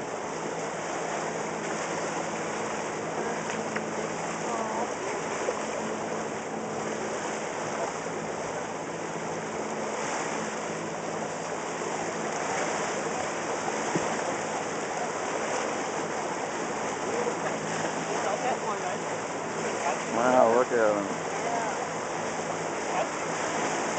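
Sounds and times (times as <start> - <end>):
faint low motor hum: 0.0 - 23.9
water splashing along boat hull: 0.0 - 23.9.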